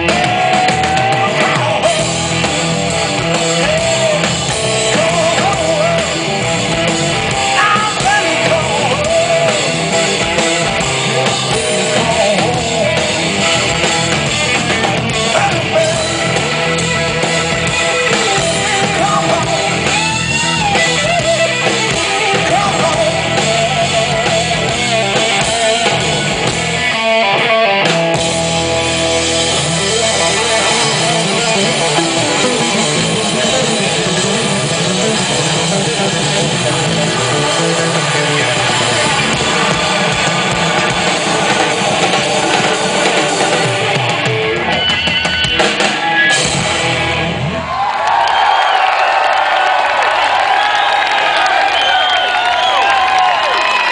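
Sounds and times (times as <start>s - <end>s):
electric guitar bent notes: 0.0s - 47.7s
drum kit: 0.0s - 53.9s.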